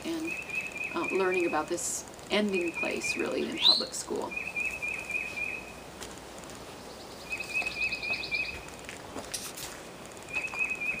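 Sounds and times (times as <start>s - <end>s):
songbird singing: 0.0s - 5.9s, 6.5s - 8.8s, 10.2s - 11.0s.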